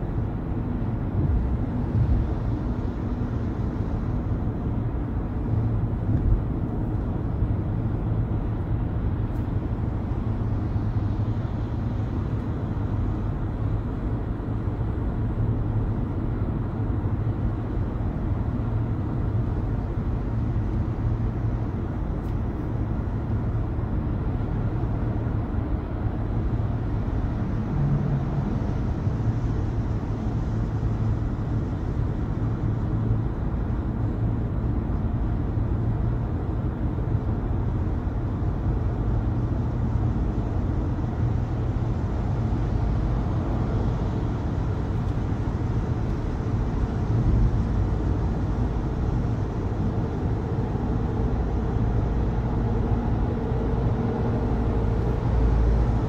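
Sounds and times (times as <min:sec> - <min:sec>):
car engine and tyre drone: 0:00.0 - 0:56.0.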